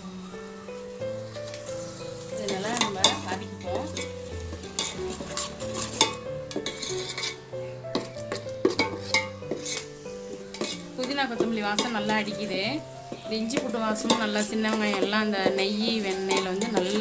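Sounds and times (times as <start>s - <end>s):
paste sizzling in oil: 0.0s - 17.0s
metal spoon scraping pan: 1.2s - 17.0s.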